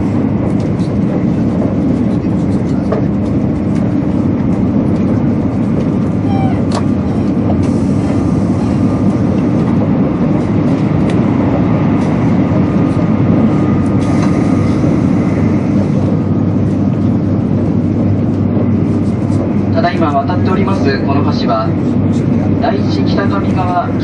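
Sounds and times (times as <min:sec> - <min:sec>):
train cabin deep rumble: 0:00.0 - 0:24.0.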